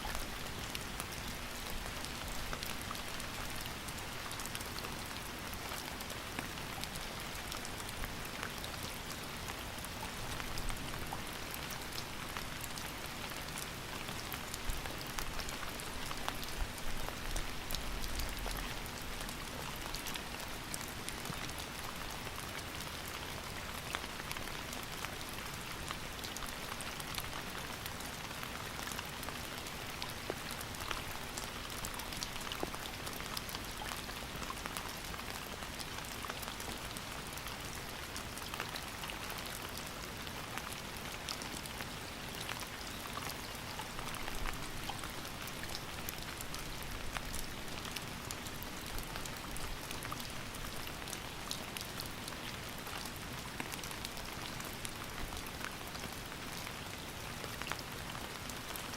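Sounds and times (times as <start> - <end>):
raindrops hitting a surface: 0.0 - 58.9
steady rain falling: 0.0 - 58.9.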